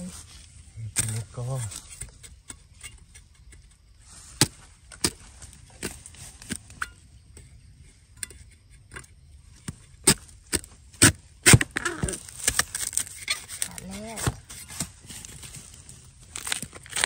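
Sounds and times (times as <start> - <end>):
digging blade striking soil: 0.8 - 15.8.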